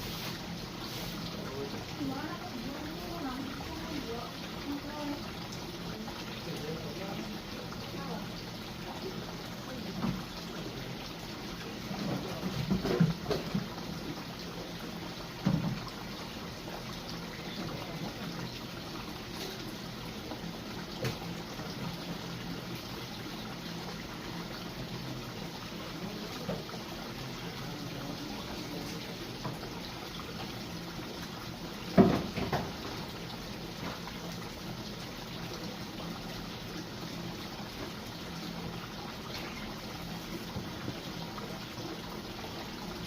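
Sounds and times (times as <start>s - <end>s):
water trickling: 0.0s - 43.0s.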